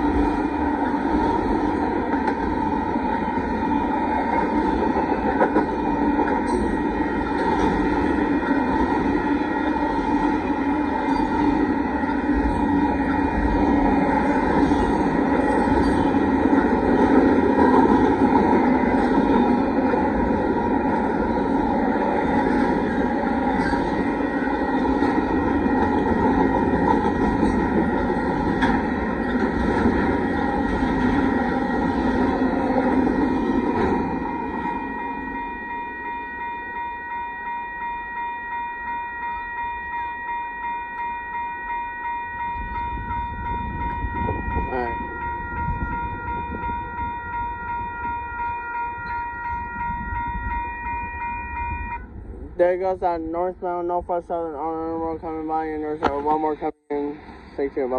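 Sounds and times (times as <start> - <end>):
freight train wheels rumbling on rail: 0.0 - 36.3, 42.2 - 57.9
grade-crossing bell ringing: 0.0 - 57.9.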